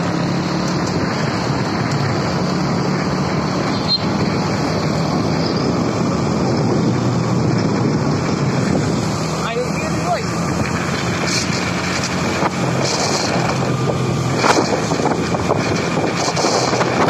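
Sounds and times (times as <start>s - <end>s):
road noise: 0.0s - 17.0s
vehicle engine drone: 0.0s - 17.0s.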